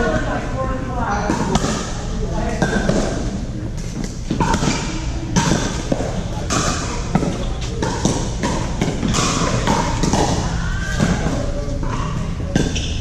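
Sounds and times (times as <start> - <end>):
background noise in large hall: 0.0 - 13.0.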